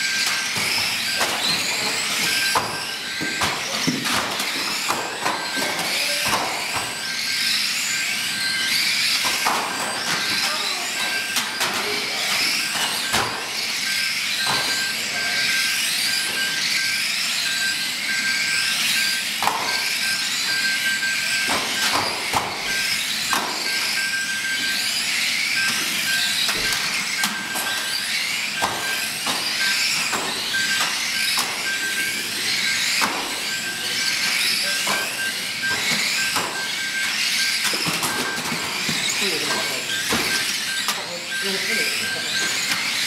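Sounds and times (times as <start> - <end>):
toy car motors whining: 0.0 - 43.0.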